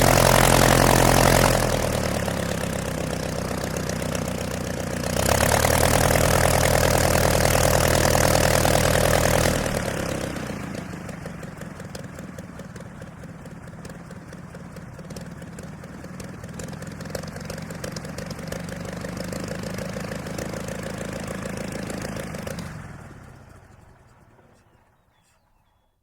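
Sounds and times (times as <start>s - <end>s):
biplane engine idling: 0.0s - 25.5s.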